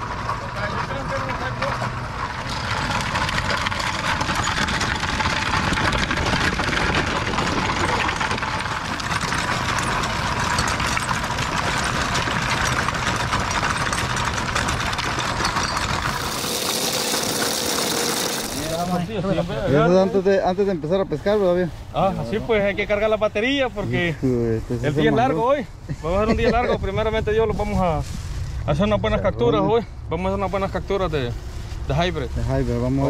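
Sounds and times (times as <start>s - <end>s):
wagon wheels rolling over gravel: 0.0s - 25.4s, 30.3s - 33.0s.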